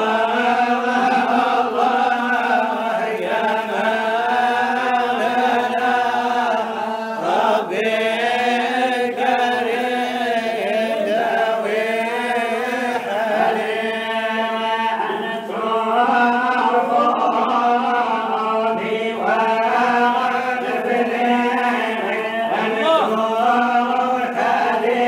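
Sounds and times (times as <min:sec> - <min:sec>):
man singing into microphone: 0:00.0 - 0:25.0.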